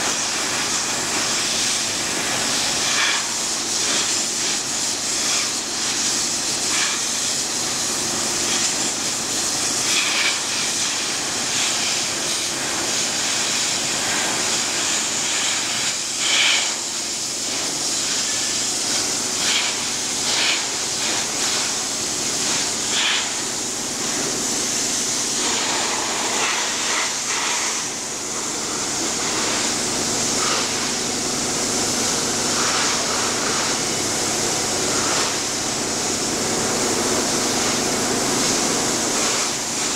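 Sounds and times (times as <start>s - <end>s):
pressure washer hiss: 0.0s - 39.9s.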